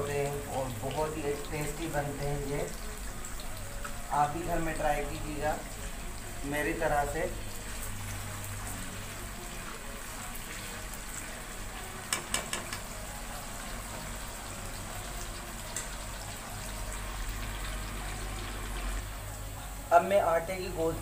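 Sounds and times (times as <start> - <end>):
oil sizzling and bubbling: 0.0 - 21.0.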